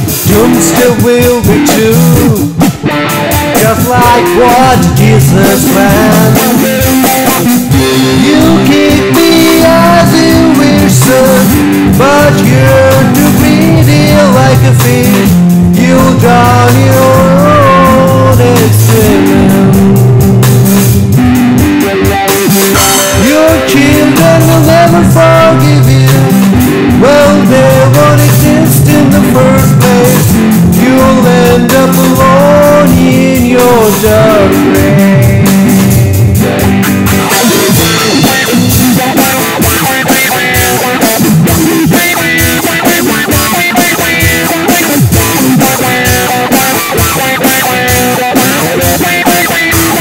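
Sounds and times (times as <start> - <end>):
bending lead guitar melody: 0.0 - 50.0
rock band playing: 0.0 - 50.0.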